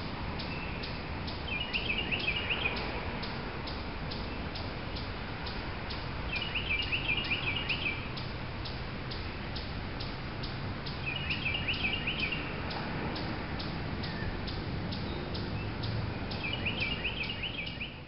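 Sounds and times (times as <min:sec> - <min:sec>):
low outdoor rumble: 0:00.0 - 0:17.8
songbird twittering: 0:00.4 - 0:18.0.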